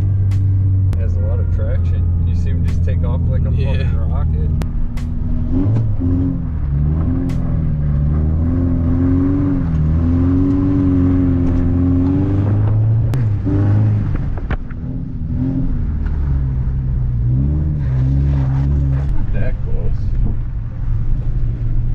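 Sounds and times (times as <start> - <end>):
car engine revving under load: 0.0 - 21.9.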